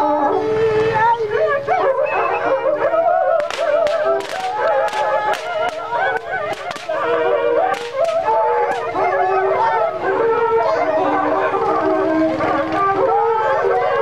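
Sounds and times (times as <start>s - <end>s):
high-pitched group singing: 0.0s - 14.0s.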